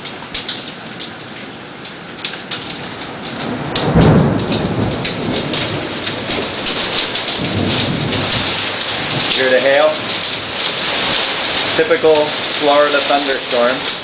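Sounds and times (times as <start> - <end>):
hail ticking: 0.0 - 14.0
heavy rain: 0.0 - 14.0
low rumble of thunder: 2.5 - 14.0.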